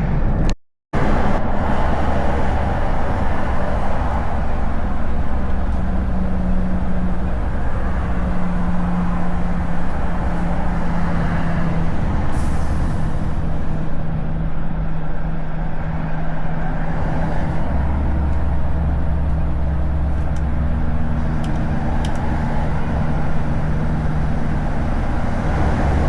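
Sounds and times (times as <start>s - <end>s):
road noise: 0.0s - 26.0s
truck engine drone: 0.0s - 26.0s.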